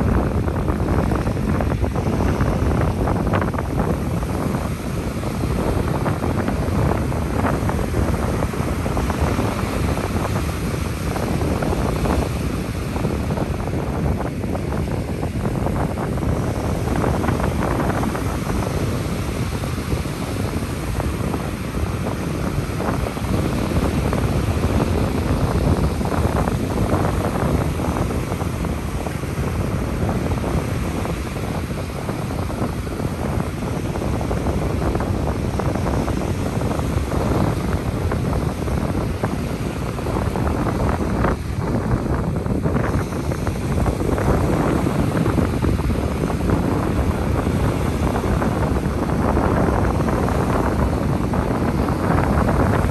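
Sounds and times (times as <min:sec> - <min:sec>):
ocean surf washing on beach: 0:00.0 - 0:52.9
wind buffeting microphone: 0:00.0 - 0:52.9.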